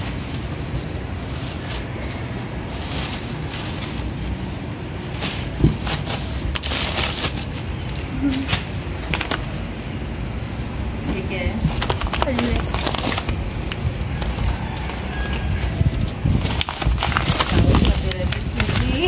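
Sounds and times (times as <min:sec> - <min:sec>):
cardboard and plastic rustling: 0:00.0 - 0:09.8, 0:11.2 - 0:19.0.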